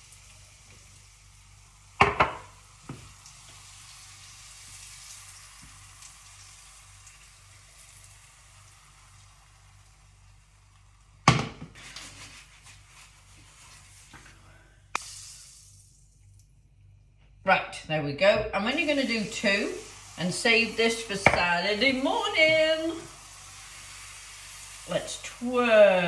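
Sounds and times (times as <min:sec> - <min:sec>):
butter sizzling in a frying pan: 0:00.0 - 0:16.3, 0:18.6 - 0:26.0.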